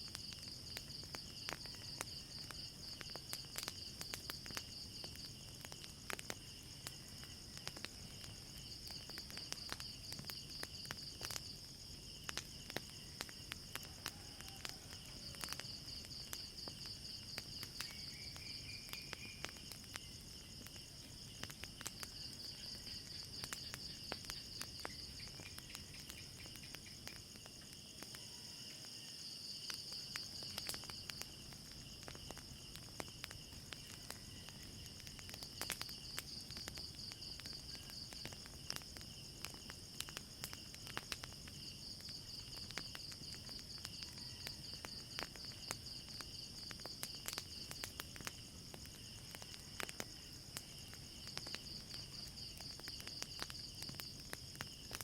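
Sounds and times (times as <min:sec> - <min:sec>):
crickets chirping: 0:00.0 - 0:55.0
wood fire crackling: 0:00.0 - 0:55.0.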